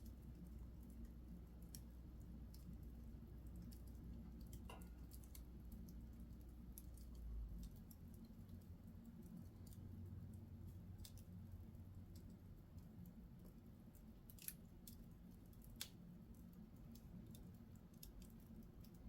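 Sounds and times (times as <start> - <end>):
fire popping: 0.0 - 19.0
low steady hum: 0.0 - 19.0
wood fire crackling: 0.0 - 19.0.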